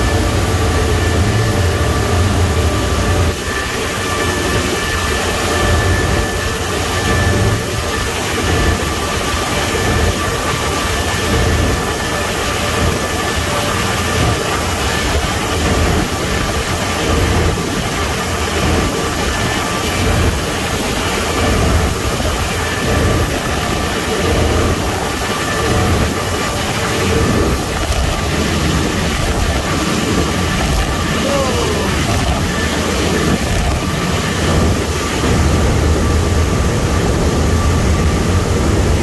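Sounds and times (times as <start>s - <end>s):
car wash machinery roar: 0.0s - 39.0s
faint constant whine: 0.0s - 39.0s.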